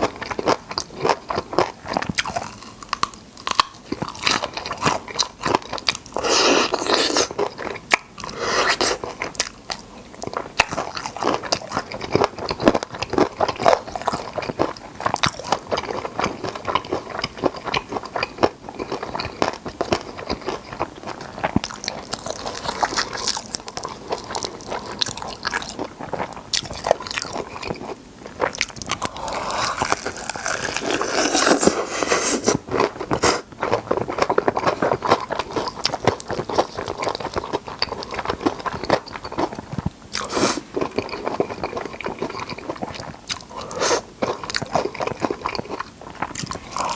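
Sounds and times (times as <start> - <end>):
crunching and chewing fried chicken: 0.0 - 46.9.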